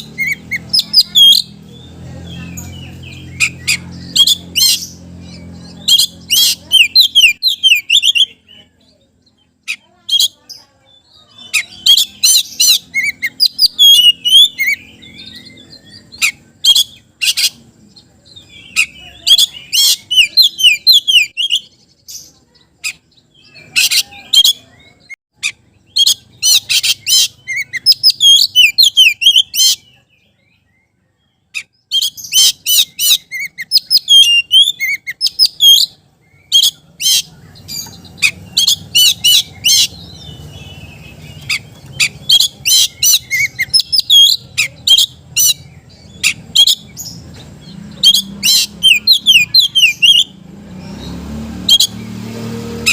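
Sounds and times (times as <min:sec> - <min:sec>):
songbird singing loudly: 0:00.0 - 0:52.9.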